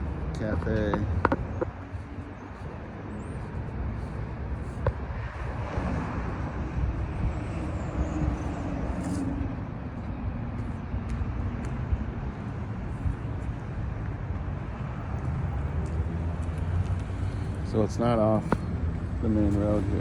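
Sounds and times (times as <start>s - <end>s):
steady low traffic rumble: 0.0s - 20.0s
vehicle passing: 0.0s - 20.0s.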